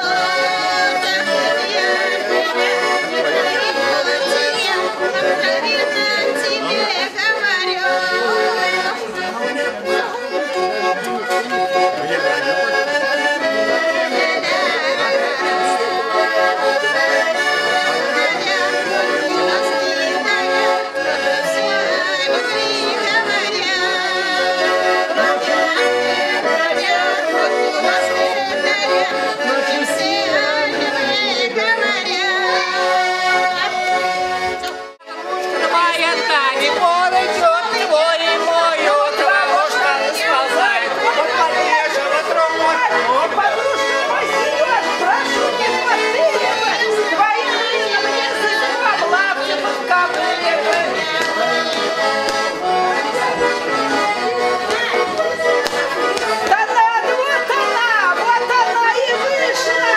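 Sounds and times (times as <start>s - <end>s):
button accordion folk tune: 0.0s - 59.9s.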